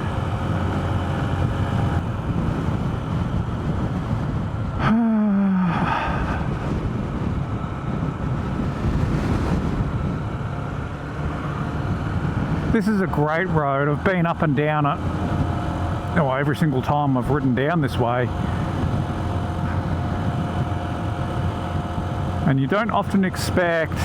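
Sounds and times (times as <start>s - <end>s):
motorcycle engine at road speed: 0.0s - 24.0s
wind buffeting microphone: 0.0s - 24.0s.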